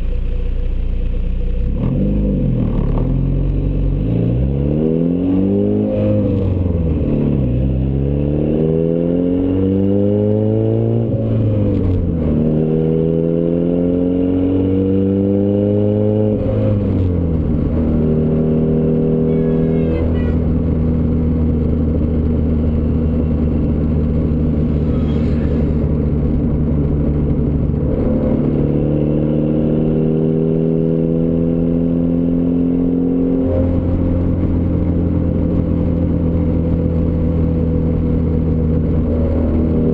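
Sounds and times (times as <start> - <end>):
car engine accelerating through gears: 1.5 - 39.9.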